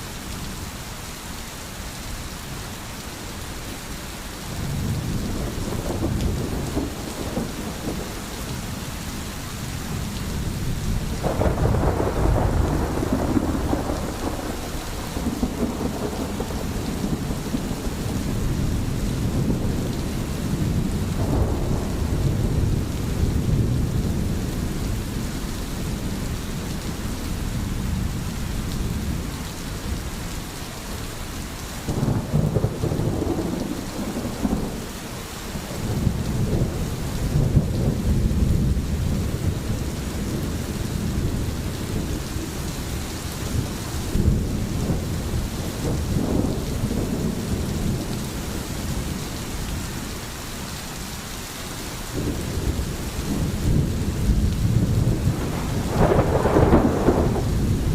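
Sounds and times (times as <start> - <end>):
steady rain: 0.0 - 57.9
rolling thunder: 4.6 - 8.9, 9.9 - 30.0, 31.9 - 34.9, 35.6 - 49.7, 52.2 - 57.9.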